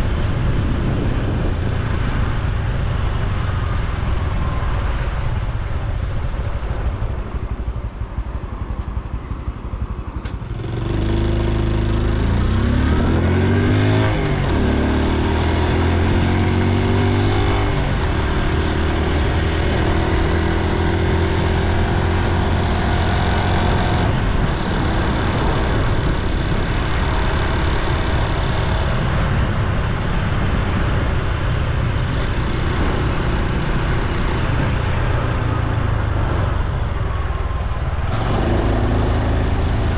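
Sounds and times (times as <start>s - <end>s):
wind rumble on microphone: 0.0s - 39.9s
motorcycle engine revving: 7.4s - 39.9s.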